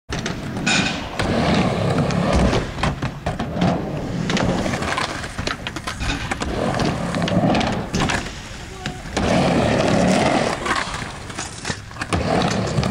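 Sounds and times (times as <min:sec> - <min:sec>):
skateboard wheels rumbling on ramp: 0:00.1 - 0:12.9.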